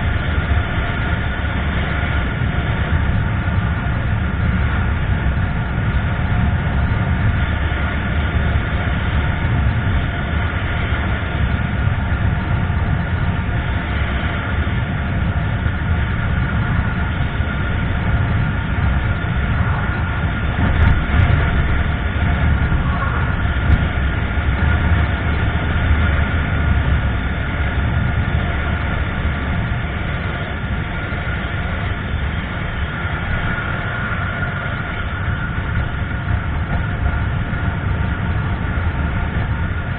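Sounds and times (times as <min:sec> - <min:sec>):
motorcycle engine running: 0:00.0 - 0:39.9
road rumble: 0:00.0 - 0:39.9
wind noise: 0:00.0 - 0:39.9.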